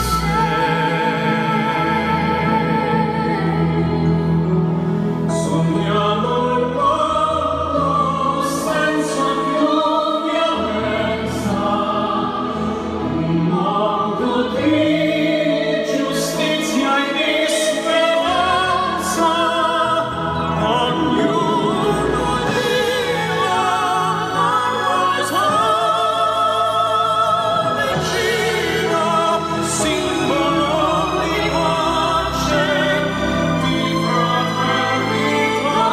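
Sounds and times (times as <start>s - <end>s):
operatic singing over loudspeakers: 0.0s - 35.9s.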